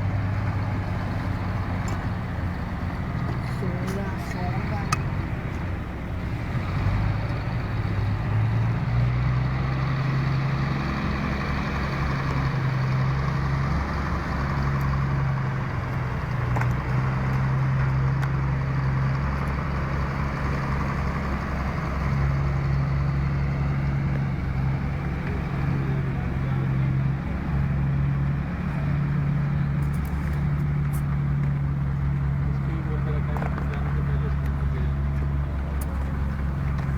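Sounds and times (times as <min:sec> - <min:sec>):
engine running with low hum: 0:00.0 - 0:36.9.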